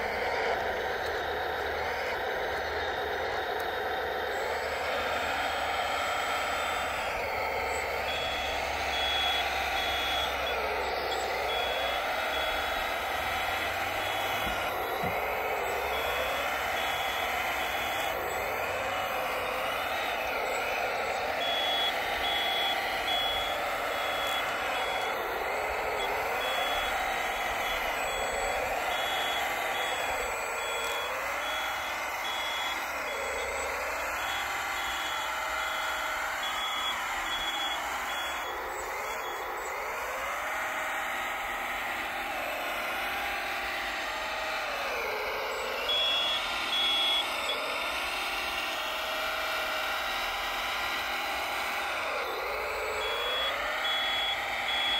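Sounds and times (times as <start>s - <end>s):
electric motors and hydraulic whine: 0.0s - 54.9s
reversing beeper: 0.0s - 54.9s.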